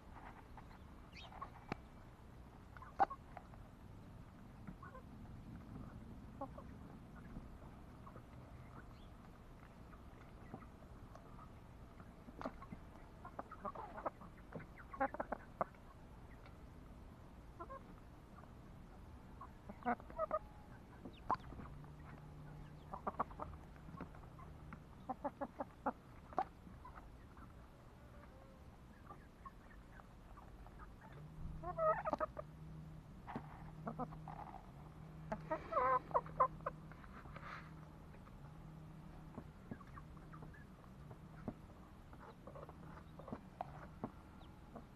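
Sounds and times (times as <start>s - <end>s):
chickens clucking: 0.0s - 16.7s, 17.3s - 44.9s.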